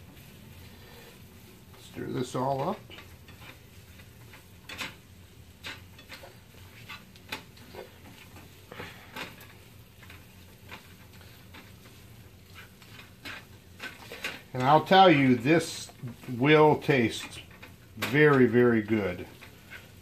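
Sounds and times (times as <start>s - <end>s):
spatula scraping skillet: 0.0s - 20.0s.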